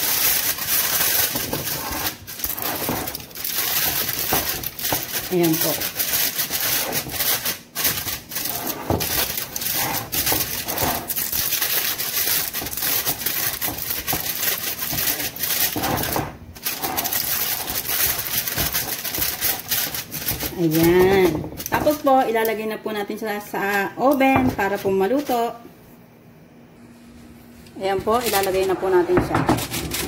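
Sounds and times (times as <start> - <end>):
aluminium foil crinkling: 0.0 - 22.6, 24.4 - 25.6, 28.0 - 30.0.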